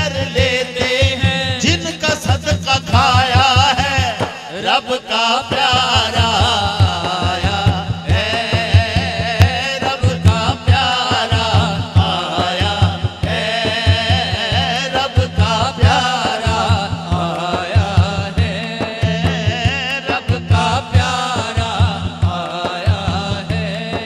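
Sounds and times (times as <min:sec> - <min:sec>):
man singing through microphone: 0:00.0 - 0:24.0.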